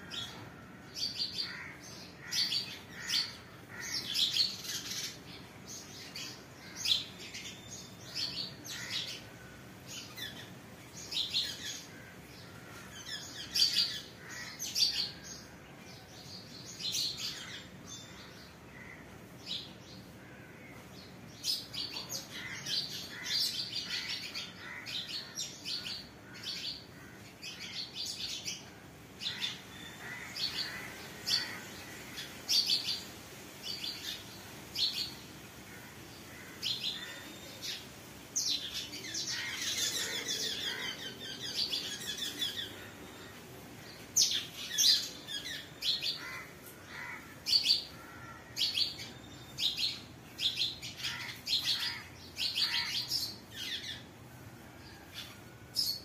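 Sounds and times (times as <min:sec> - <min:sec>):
birds chirping: 0:00.0 - 0:56.0
faint steady hiss: 0:00.0 - 0:56.0.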